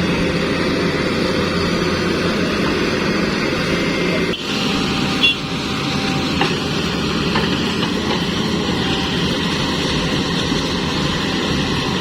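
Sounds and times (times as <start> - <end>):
excavator engines under load: 0.0 - 12.0.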